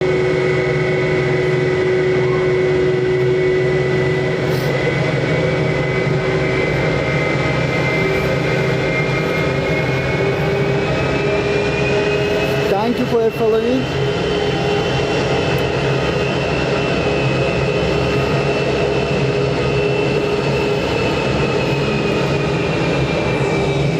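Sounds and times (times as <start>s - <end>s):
jet engines whining: 0.0s - 23.9s.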